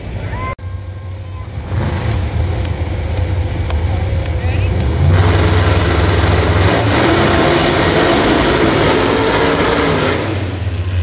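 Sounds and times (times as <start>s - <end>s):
car engine at full throttle: 1.5s - 11.0s.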